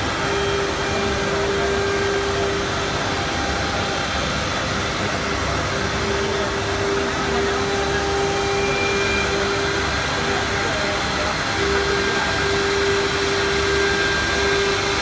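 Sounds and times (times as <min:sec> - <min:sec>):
cnc router whine: 0:00.0 - 0:15.0
rushing machine noise: 0:00.0 - 0:15.0.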